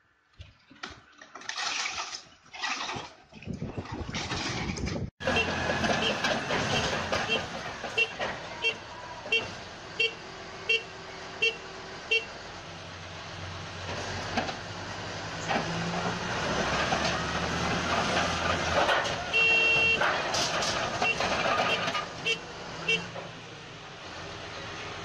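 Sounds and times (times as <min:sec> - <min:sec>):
bulldozer diesel engine: 0:04.4 - 0:25.0.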